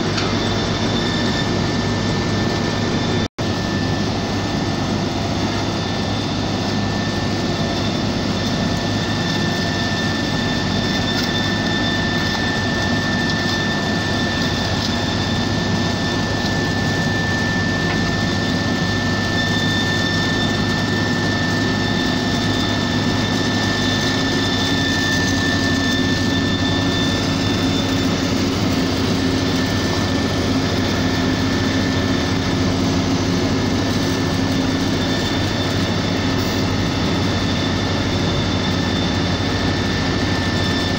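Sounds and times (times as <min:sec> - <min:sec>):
heavy machinery engine drone: 0:00.0 - 0:40.9
high-pitched whine: 0:00.0 - 0:40.9.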